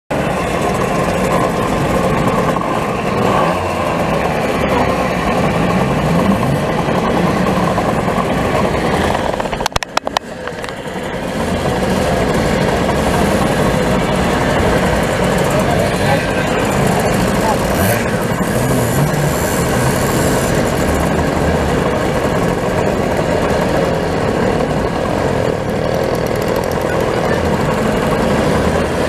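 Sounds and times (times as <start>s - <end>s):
two-stroke mopeds revving: 0.1s - 29.0s.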